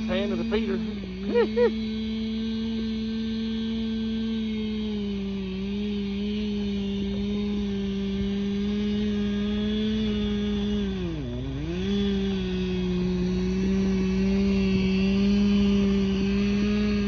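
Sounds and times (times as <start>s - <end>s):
chainsaw cutting through trunk: 0.0s - 17.0s.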